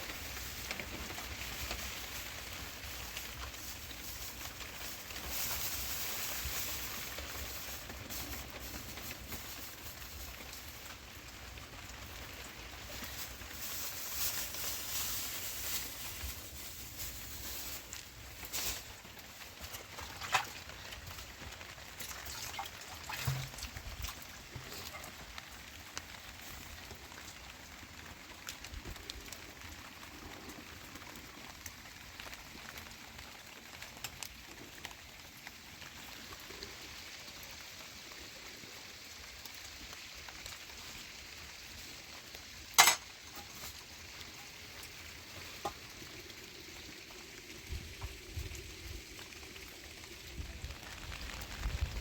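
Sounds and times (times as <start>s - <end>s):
rain pattering: 0.0s - 52.0s.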